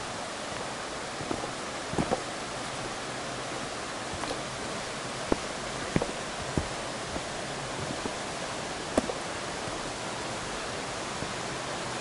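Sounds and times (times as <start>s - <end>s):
brook rushing: 0.0s - 10.8s
footsteps on rocky dirt path: 0.5s - 10.2s.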